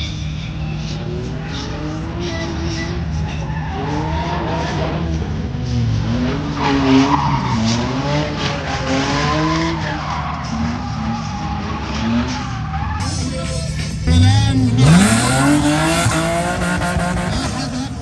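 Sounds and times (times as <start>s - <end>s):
car engine revving: 0.0s - 18.0s
tyres skidding: 0.3s - 18.0s.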